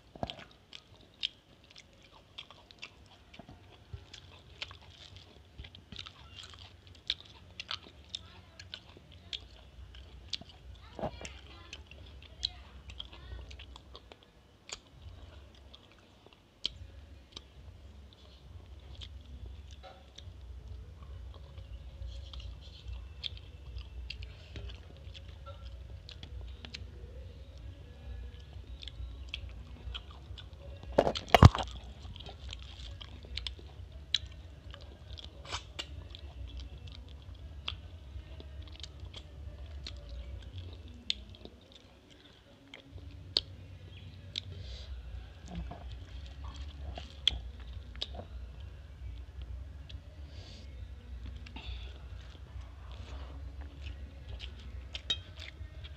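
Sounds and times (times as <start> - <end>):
chewing and wet mouth clicks: 0.1 - 55.9.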